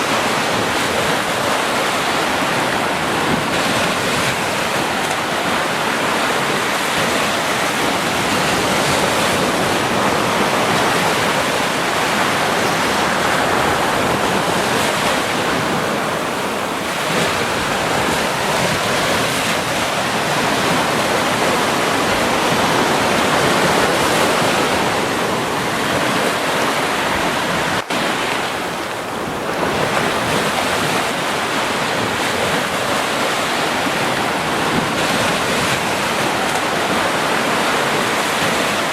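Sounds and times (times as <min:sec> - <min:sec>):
sea waves washing in: 0:00.0 - 0:38.9.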